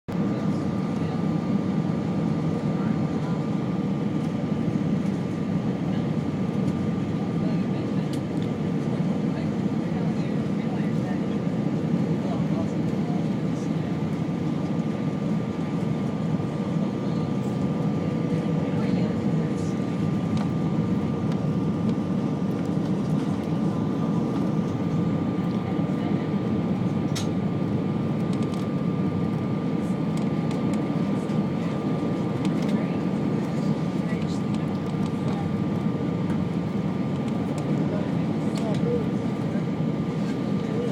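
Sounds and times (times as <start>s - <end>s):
jet engines rumbling: 0.1s - 40.9s
thin steady engine whine: 0.1s - 40.9s.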